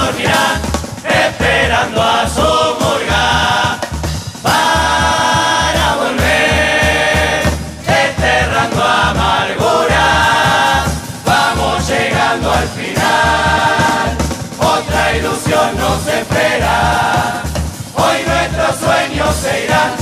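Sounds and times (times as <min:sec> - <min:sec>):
choir singing in several voices: 0:00.0 - 0:20.0
steady low drum beat: 0:00.0 - 0:20.0.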